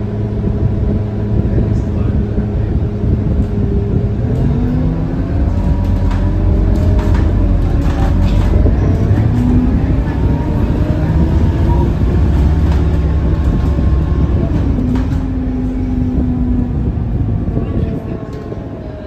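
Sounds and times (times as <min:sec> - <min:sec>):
bus engine running: 0:00.0 - 0:19.0
road noise: 0:00.0 - 0:19.0.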